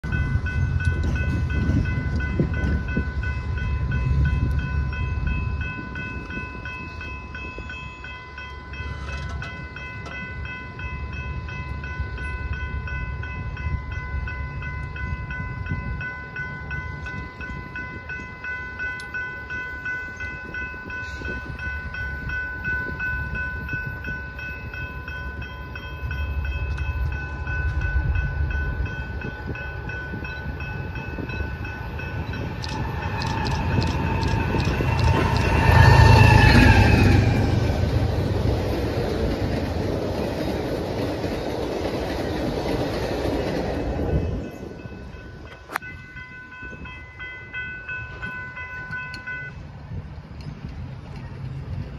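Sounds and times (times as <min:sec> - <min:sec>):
wind gusts on microphone: 0:00.0 - 0:07.9, 0:09.3 - 0:51.9
distant train rumble: 0:00.0 - 0:51.9.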